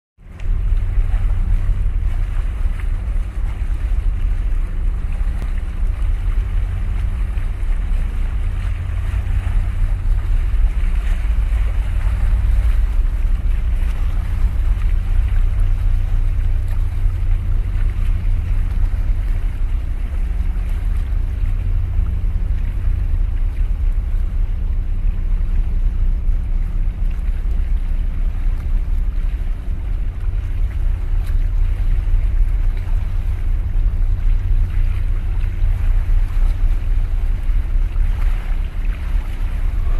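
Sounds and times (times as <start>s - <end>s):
sea water washing on concrete: 0.2s - 39.9s
wind buffeting microphone: 0.2s - 39.9s.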